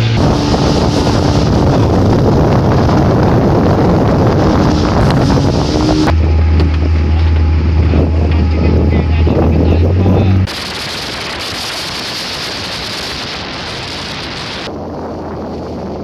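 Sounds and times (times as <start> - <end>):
rushing water: 0.0 - 8.6, 10.3 - 14.7
motorboat engine: 0.0 - 15.9
wind buffeting microphone: 0.0 - 16.0.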